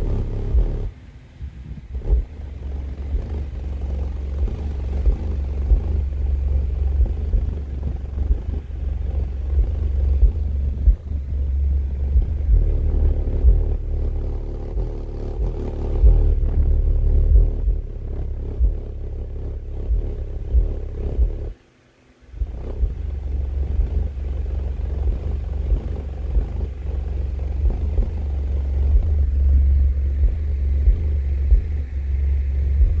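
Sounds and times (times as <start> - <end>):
subwoofer playing deep bass: 0.0 - 0.9, 1.5 - 21.6, 22.4 - 33.0.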